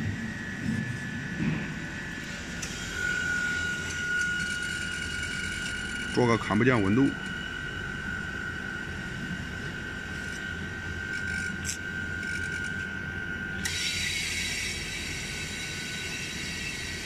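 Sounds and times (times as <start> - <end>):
high steady whine: 0.0 - 17.0
refrigeration unit humming: 0.0 - 17.0.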